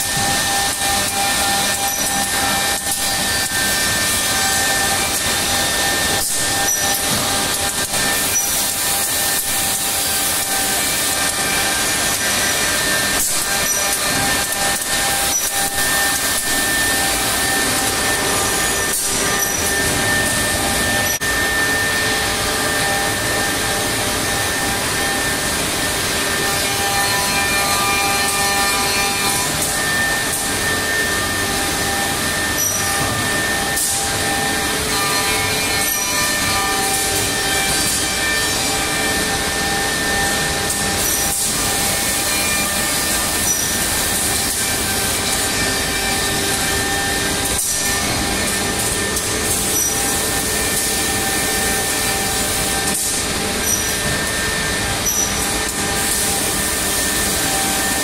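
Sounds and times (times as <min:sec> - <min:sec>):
machine running steadily: 0:00.0 - 0:58.0.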